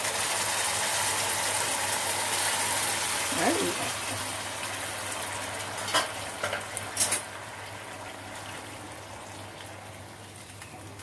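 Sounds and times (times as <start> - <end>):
water hissing and bubbling in pan: 0.0 - 11.0.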